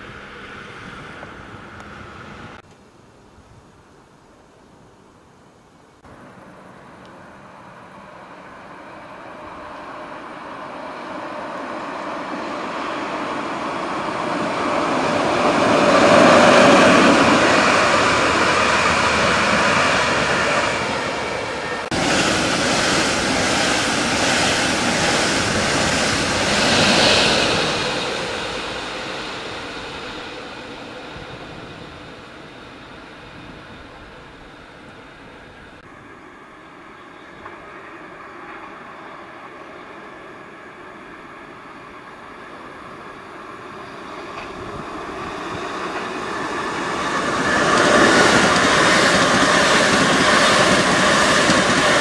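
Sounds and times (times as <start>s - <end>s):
train wheels on rails: 6.0s - 52.0s.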